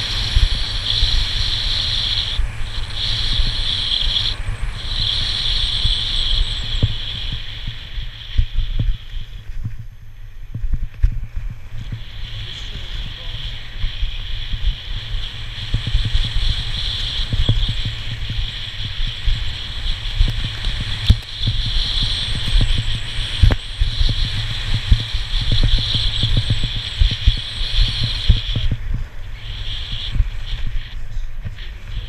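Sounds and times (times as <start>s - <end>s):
skis scraping over snow: 0.0s - 32.0s
wind buffeting microphone: 0.0s - 32.0s.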